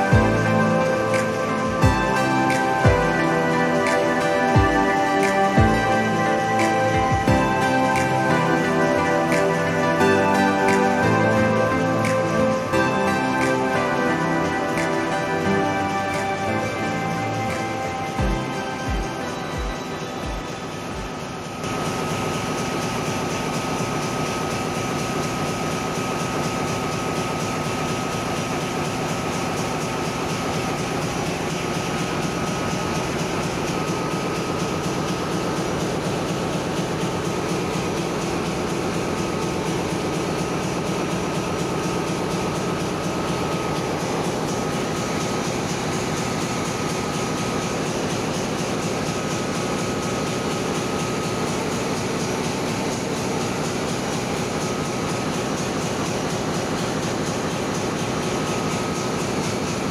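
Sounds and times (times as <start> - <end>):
engine room machinery drone: 0.0 - 59.9
thin constant whine: 0.0 - 59.9.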